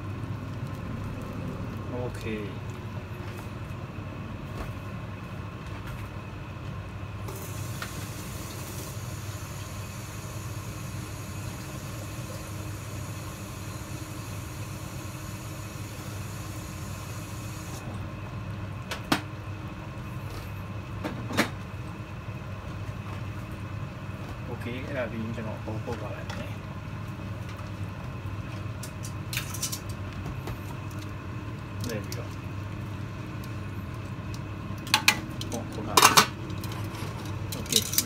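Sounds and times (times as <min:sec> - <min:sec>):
low mechanical hum: 0:00.0 - 0:38.0.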